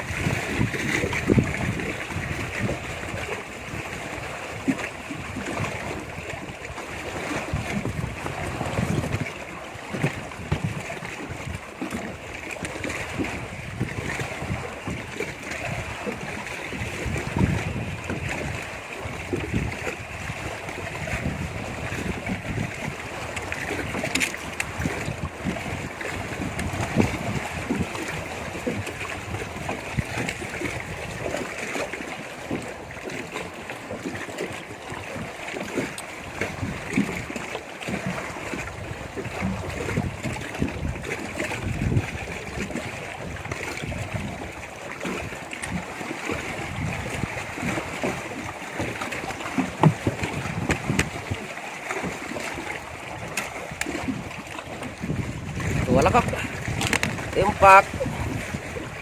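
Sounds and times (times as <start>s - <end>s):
wind buffeting microphone: 0.0s - 31.6s, 33.9s - 59.0s
water lapping against boat hull: 0.0s - 59.0s.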